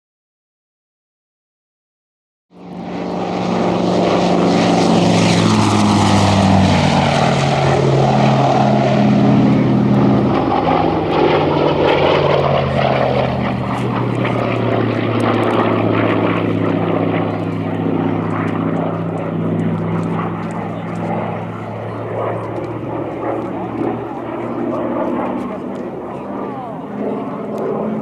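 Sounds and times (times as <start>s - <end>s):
propeller plane engine roaring: 2.5s - 28.0s.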